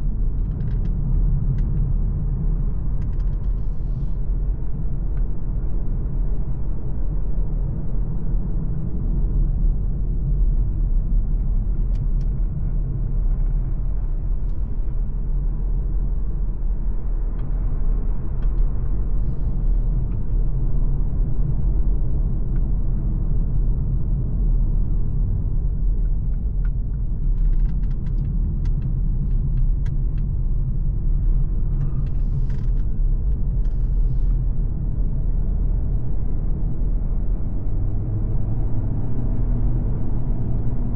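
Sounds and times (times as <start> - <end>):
car tyres rumbling on road: 0.0 - 40.9.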